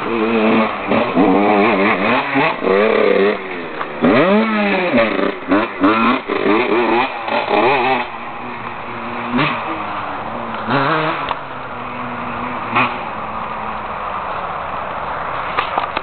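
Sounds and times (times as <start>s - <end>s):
two-stroke engine revving: 0.0s - 14.3s.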